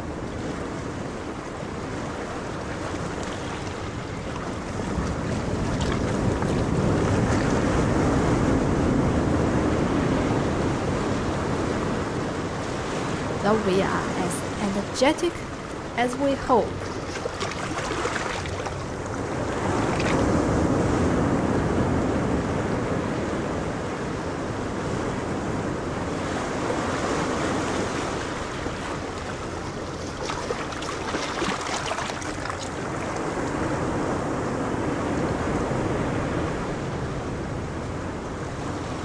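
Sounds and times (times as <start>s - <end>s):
rushing water with waves: 0.0s - 39.0s.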